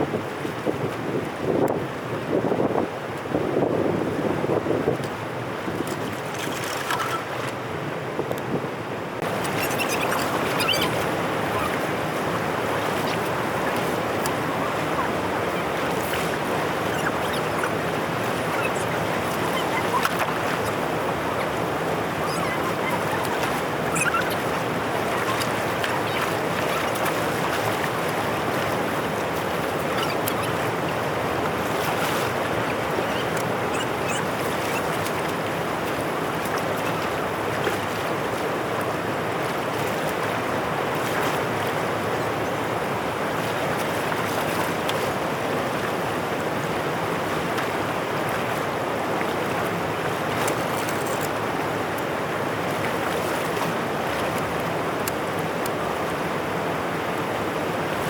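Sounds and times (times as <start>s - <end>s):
floodwater rushing through drain: 9.2s - 58.0s.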